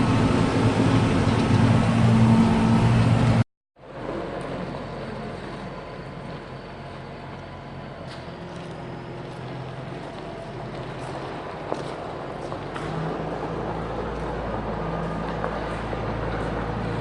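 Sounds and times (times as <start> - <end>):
machinery drone: 0.0 - 17.0
tractor engine running: 0.0 - 17.0.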